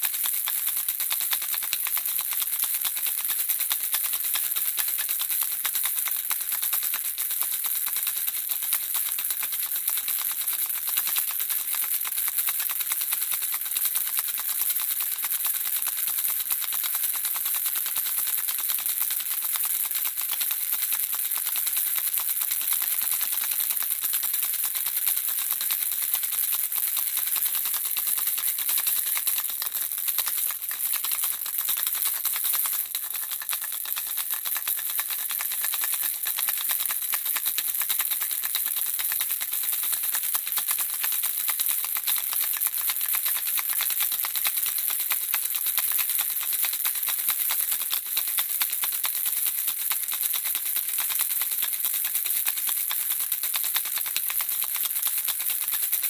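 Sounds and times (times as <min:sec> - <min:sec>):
baby rattle shaken: 0:00.0 - 0:56.0.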